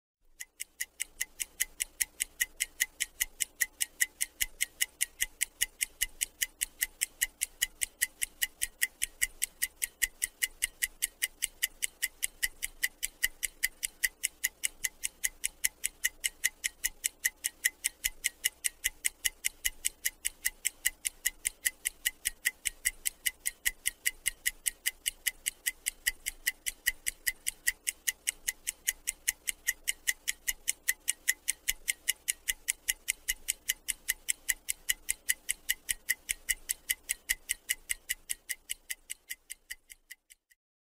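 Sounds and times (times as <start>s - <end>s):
clock-like ticking: 0.3s - 40.6s.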